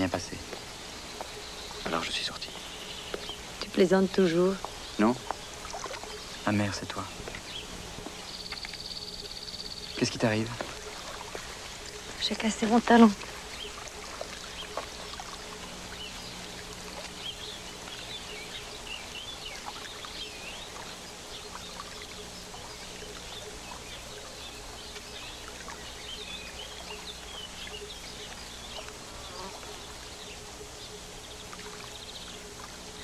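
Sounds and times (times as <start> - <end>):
faint steady hum: 0.0 - 33.0
small birds chirping: 0.0 - 33.0
steady hiss: 0.0 - 33.0.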